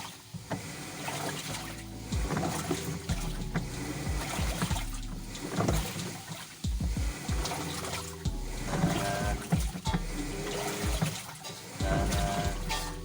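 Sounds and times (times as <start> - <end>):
washing machine motor hum: 0.4 - 13.0
water churning and splashing: 0.5 - 13.0.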